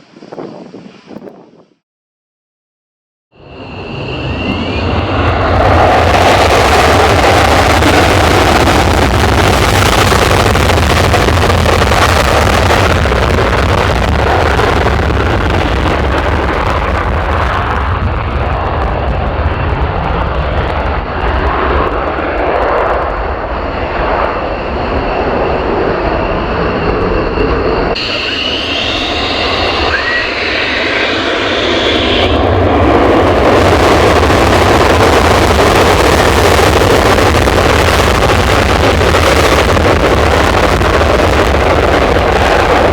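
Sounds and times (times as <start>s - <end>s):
jet engine roar: 3.4s - 42.9s.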